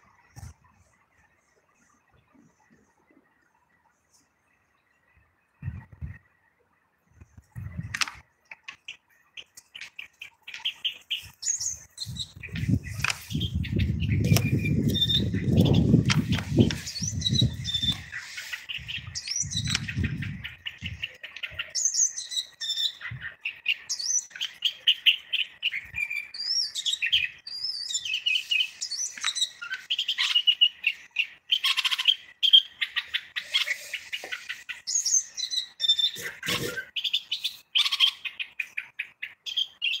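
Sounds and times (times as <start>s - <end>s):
bulbul singing: 7.5s - 40.0s.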